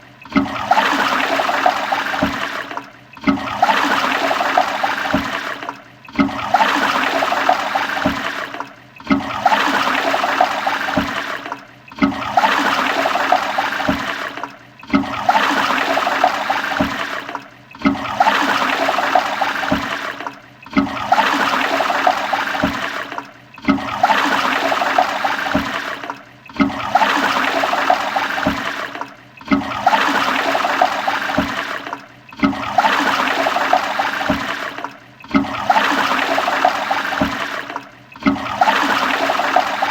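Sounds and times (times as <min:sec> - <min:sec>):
toilet flushing: 0:00.0 - 0:39.9.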